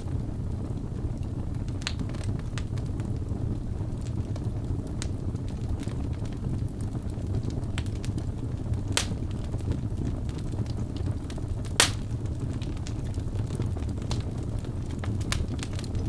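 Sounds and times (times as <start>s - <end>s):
wood fire burning: 0.0s - 16.0s
logs crackling and popping: 0.1s - 16.0s.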